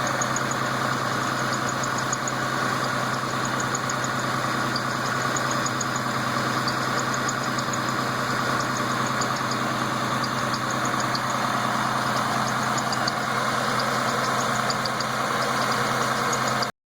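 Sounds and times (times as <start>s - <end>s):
car engine idling: 0.0s - 16.7s
high-pitched belt chirps: 1.3s - 16.7s.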